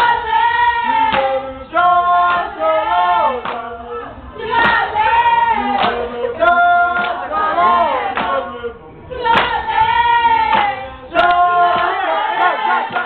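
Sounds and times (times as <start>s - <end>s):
group singing in harmony: 0.0s - 13.0s.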